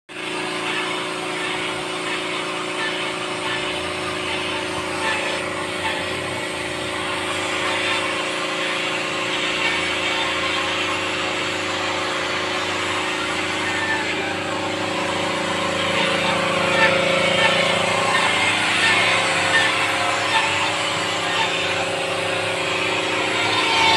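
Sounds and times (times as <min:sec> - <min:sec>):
machine motor humming: 0:00.2 - 0:23.9.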